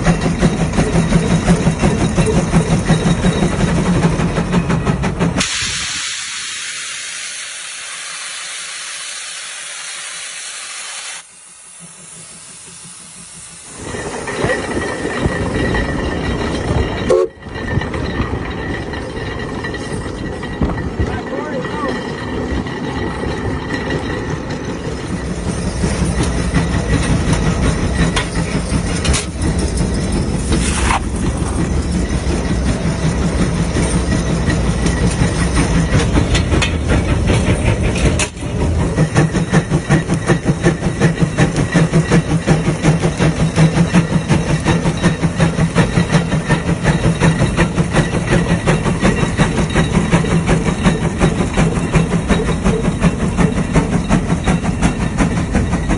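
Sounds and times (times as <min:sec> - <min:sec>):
steam hissing: 0:00.0 - 0:16.0, 0:24.8 - 0:55.9
steam engine exhaust beating: 0:00.0 - 0:55.9.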